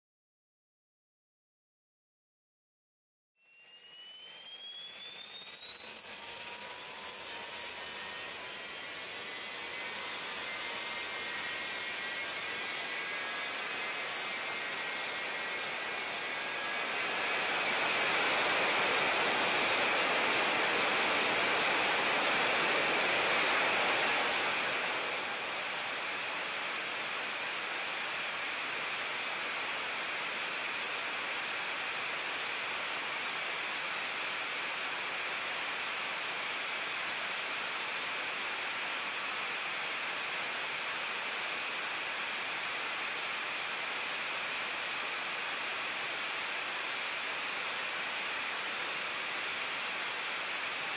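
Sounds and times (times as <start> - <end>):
jet engine running: 3.5 - 50.9.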